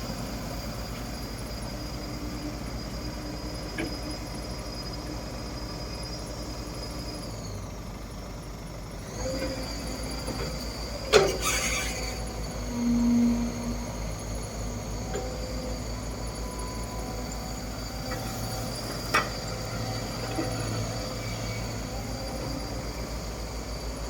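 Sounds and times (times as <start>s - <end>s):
excavator diesel engine whining: 0.0s - 24.0s.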